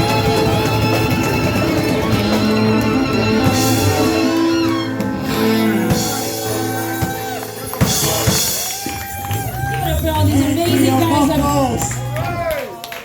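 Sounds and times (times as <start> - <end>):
live band with guitar and drums: 0.0 - 13.0.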